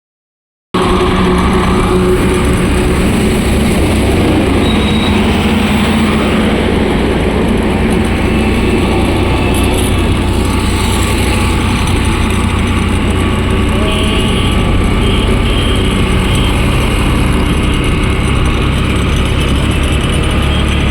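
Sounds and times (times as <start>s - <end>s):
motorcycle engine running steadily: 0.8s - 20.9s.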